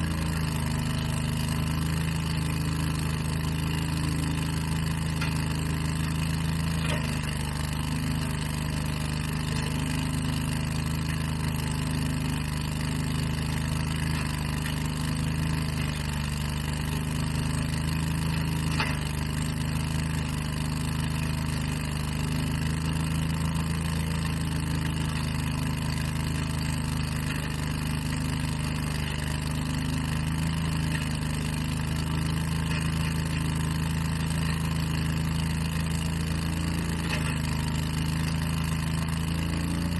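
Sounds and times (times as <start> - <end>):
leaf blower engine drone: 0.0 - 39.9.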